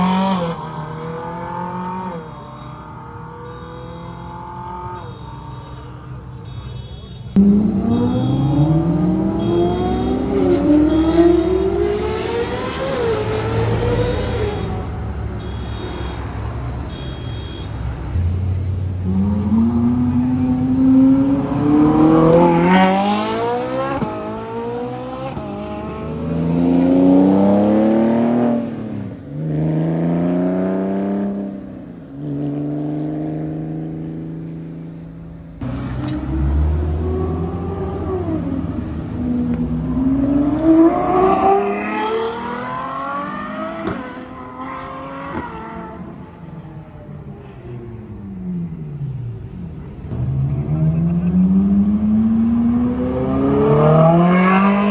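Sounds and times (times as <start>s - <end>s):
car engines accelerating hard: 0.0s - 5.0s, 7.4s - 15.4s, 18.0s - 54.9s.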